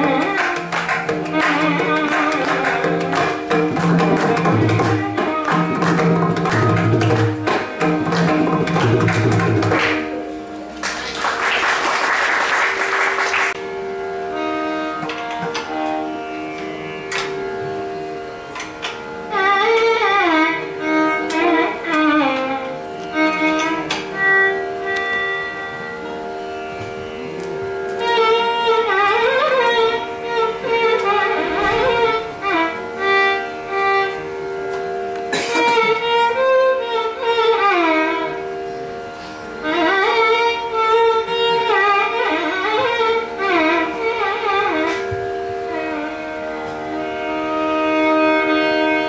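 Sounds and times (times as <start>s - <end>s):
violin playing sliding ornamented notes: 0.0s - 11.2s, 12.7s - 49.0s.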